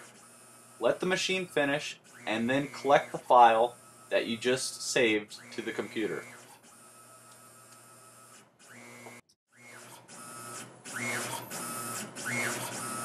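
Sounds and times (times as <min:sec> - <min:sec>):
machine axis motor whine: 0:00.0 - 0:13.0.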